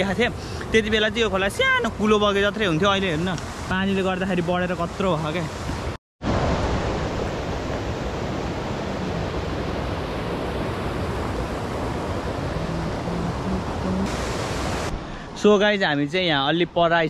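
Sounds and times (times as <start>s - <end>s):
river rushing over cascades: 0.0s - 16.1s.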